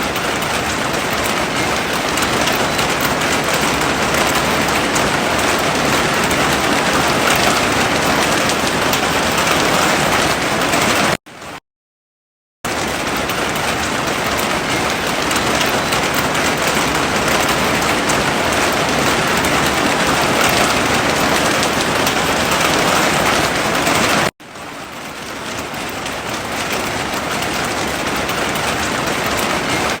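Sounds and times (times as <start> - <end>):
heavy rain falling: 0.0 - 11.6, 12.7 - 30.0.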